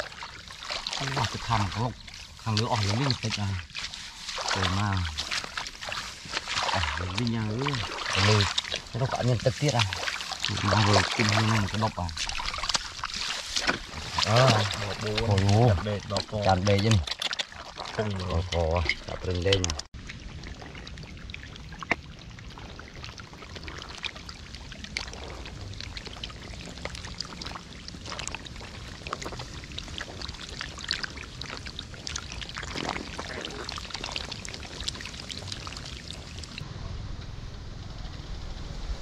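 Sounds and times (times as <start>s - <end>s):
shallow water splashing and trickling: 0.0s - 36.7s.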